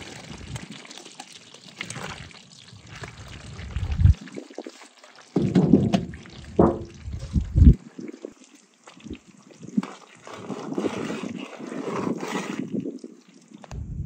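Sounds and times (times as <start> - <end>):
syrup sloshing and bubbling: 0.0 - 13.7.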